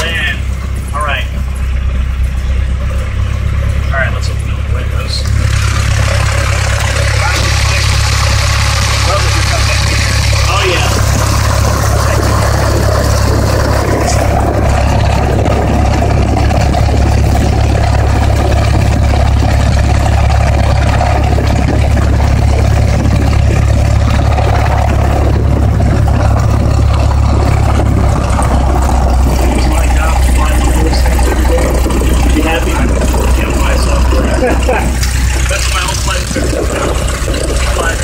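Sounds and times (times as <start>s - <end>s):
airplane engine and propeller droning: 0.0s - 38.0s.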